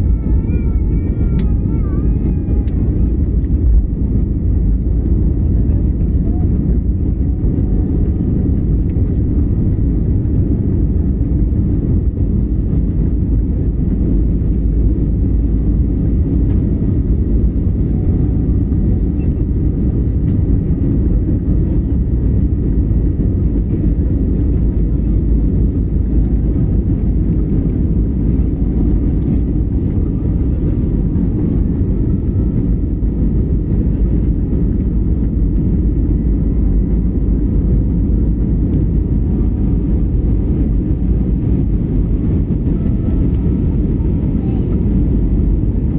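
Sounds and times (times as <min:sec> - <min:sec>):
jet engine deep rumble: 0:00.0 - 0:45.9.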